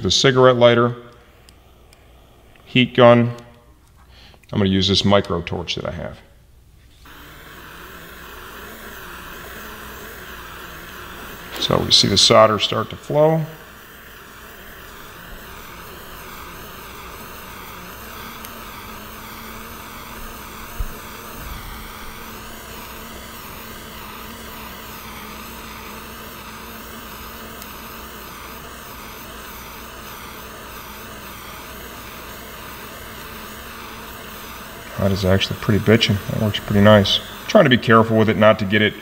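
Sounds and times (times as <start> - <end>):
torch hissing: 0.0 - 4.5, 7.0 - 39.0.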